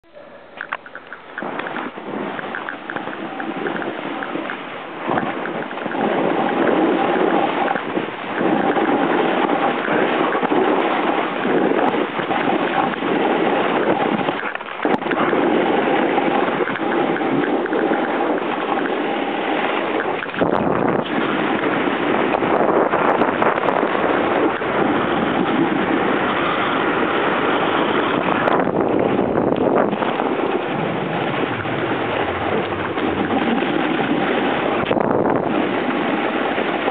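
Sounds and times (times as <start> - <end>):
wind on microphone: 0.0 - 36.9
snowboard scraping through snow: 1.4 - 36.9.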